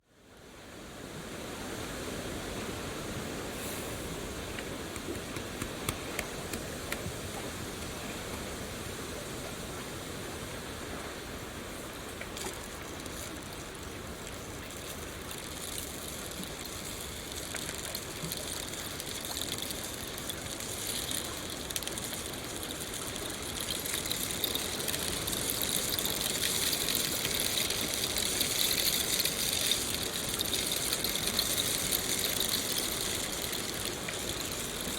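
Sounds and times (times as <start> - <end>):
flowing water rushing: 2.0 - 34.9.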